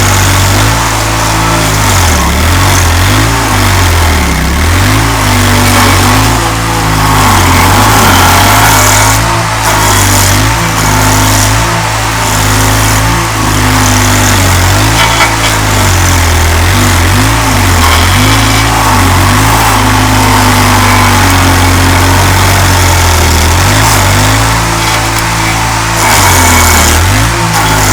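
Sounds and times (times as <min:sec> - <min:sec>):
stump grinder running: 0:00.0 - 0:27.9.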